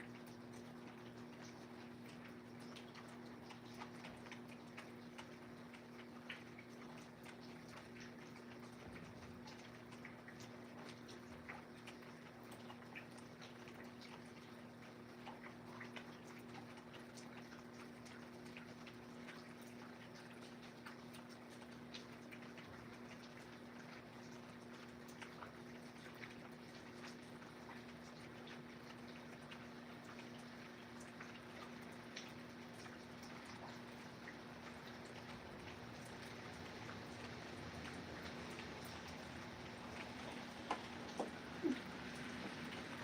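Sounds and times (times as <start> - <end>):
raindrops tapping and dripping: 0.0 - 43.0.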